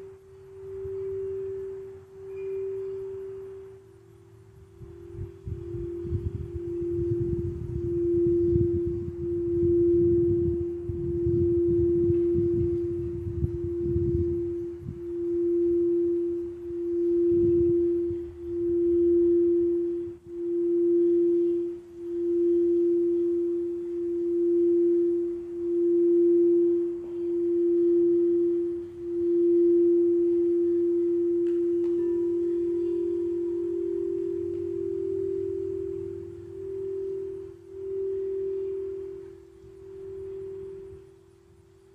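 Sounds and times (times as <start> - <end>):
higher singing bowl tone: 0.0 - 41.9
singing bowl tone: 0.0 - 41.9.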